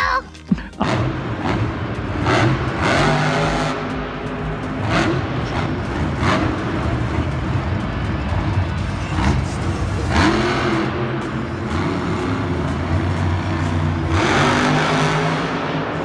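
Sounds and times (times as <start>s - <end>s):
monster truck engine revving: 0.7s - 16.0s.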